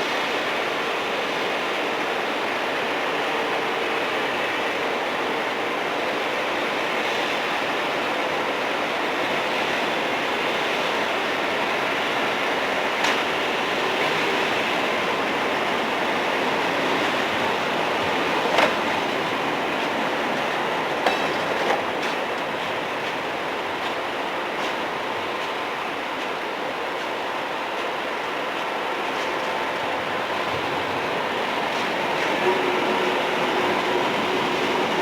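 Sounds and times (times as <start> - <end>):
train wheels rushing on rail: 0.0 - 35.0.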